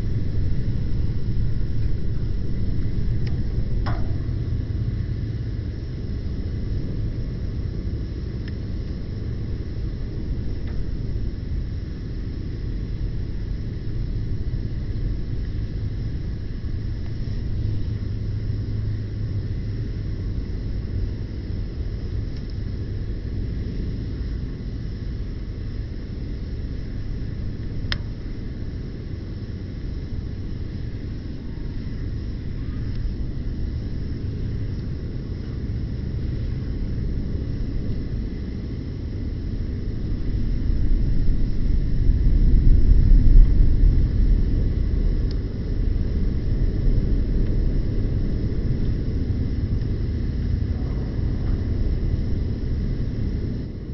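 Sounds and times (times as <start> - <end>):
campfire burning: 0.0 - 53.9.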